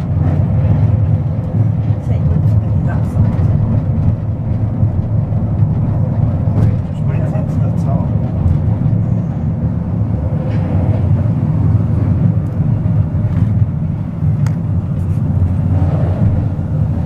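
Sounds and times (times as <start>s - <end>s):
funicular car rumbling: 0.0s - 17.0s.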